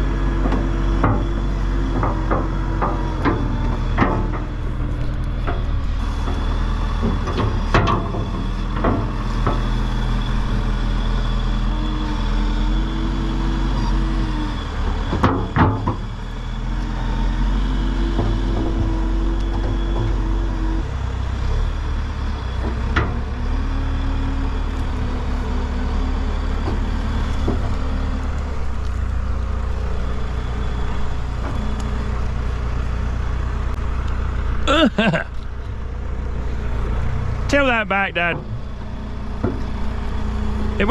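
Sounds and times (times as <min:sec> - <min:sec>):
tractor engine running: 0:00.0 - 0:13.7, 0:14.6 - 0:40.9.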